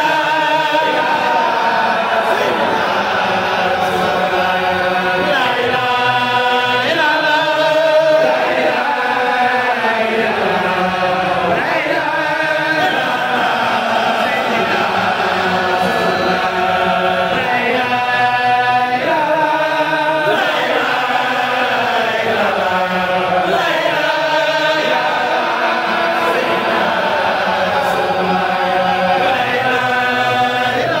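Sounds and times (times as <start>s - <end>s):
men chanting in unison: 0.0s - 31.0s.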